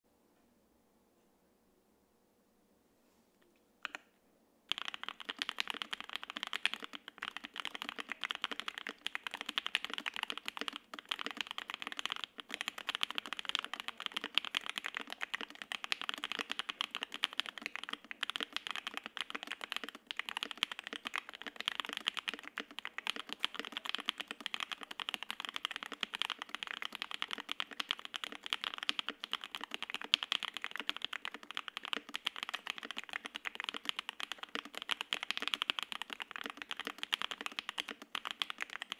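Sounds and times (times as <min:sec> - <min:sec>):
fast typing on keyboard: 0:04.7 - 0:38.9.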